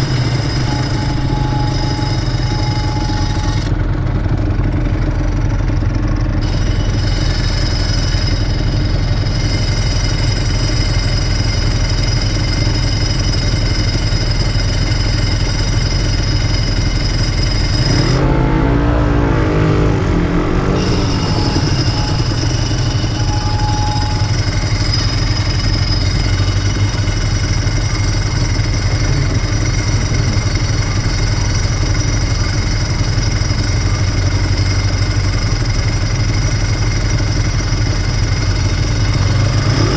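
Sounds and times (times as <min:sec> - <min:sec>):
motorcycle engine running and revving: 0:00.0 - 0:39.9.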